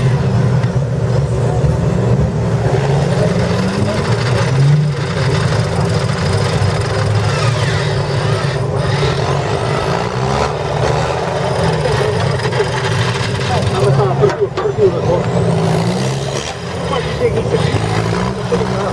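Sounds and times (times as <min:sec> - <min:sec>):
off-road vehicle engine revving: 0:00.0 - 0:18.9.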